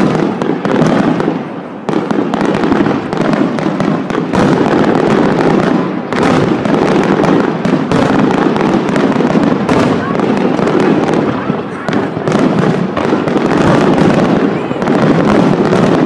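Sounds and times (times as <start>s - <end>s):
fireworks bangs and crackle: 0.0s - 16.0s.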